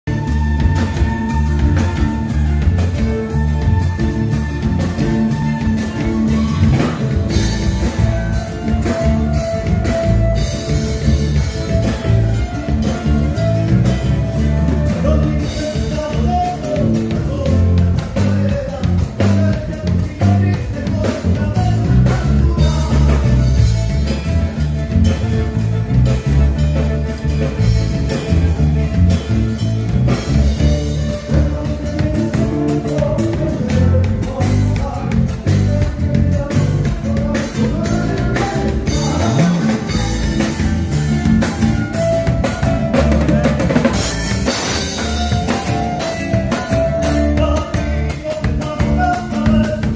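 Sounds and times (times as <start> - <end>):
drum kit: 0.0 - 49.9
electric bass: 0.0 - 49.9
live band playing: 0.0 - 49.9.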